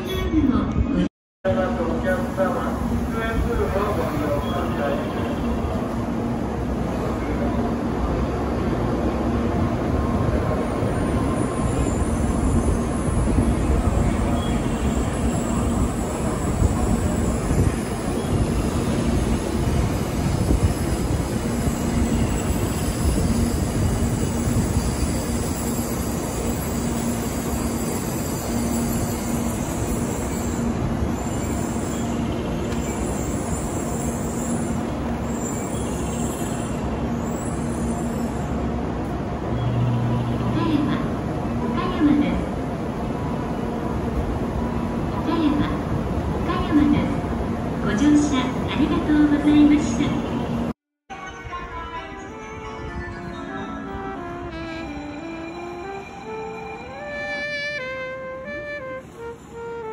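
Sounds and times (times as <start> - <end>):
train rumble: 1.5 - 59.9.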